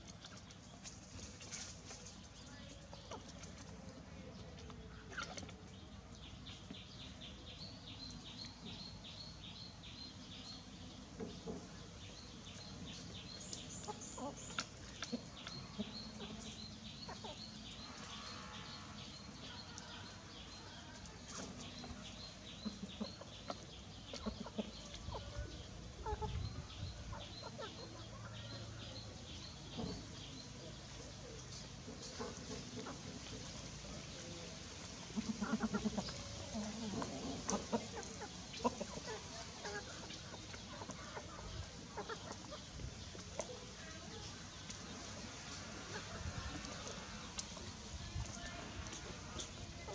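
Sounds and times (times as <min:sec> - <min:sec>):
chicken clucking: 0:00.0 - 0:05.8, 0:06.6 - 0:34.4, 0:35.0 - 0:49.9
chicks peeping: 0:00.0 - 0:49.9.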